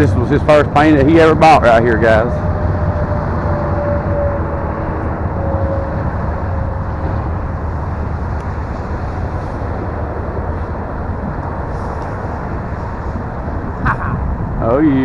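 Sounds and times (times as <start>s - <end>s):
low rushing noise: 0.0s - 15.0s.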